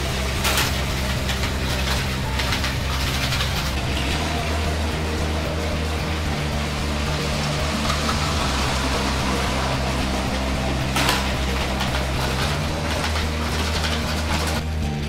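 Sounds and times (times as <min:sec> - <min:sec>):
background music with low notes: 0:00.0 - 0:15.0
toy trains whirring and rattling: 0:00.0 - 0:15.0.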